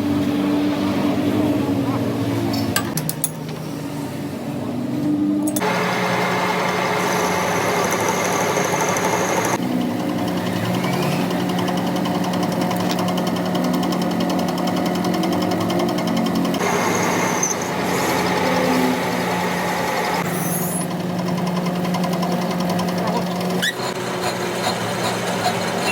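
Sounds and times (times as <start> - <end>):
metalworking machinery humming: 3.8 - 25.9.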